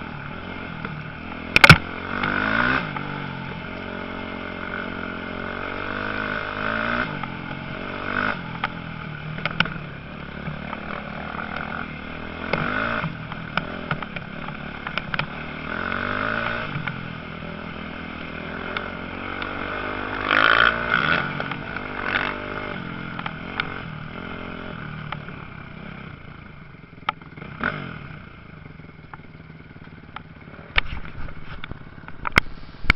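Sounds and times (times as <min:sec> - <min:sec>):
motocross bikes revving: 0:00.0 - 0:26.6, 0:27.2 - 0:28.4.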